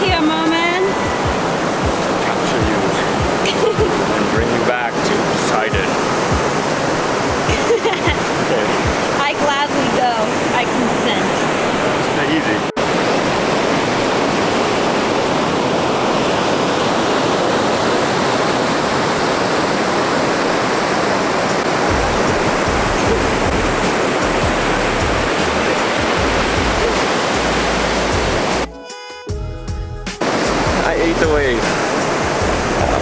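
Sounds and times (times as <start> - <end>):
low rumbling wind gusts: 0.0 - 28.7, 30.2 - 33.0
ocean surf breaking: 0.0 - 28.7, 30.2 - 33.0.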